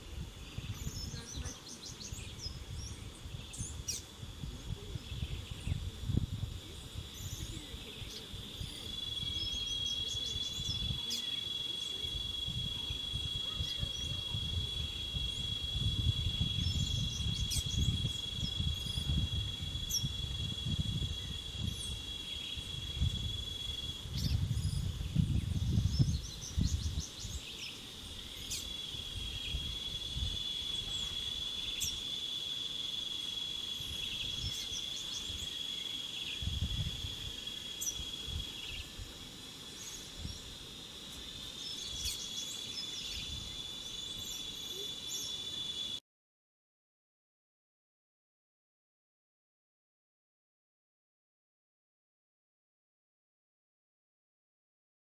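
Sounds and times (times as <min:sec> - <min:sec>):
insect trilling: 0:00.2 - 0:46.0.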